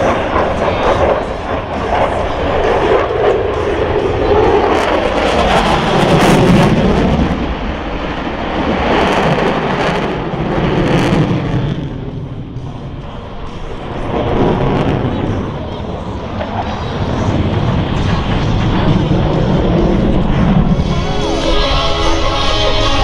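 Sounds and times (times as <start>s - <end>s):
jet aircraft passing overhead: 0.0s - 23.0s.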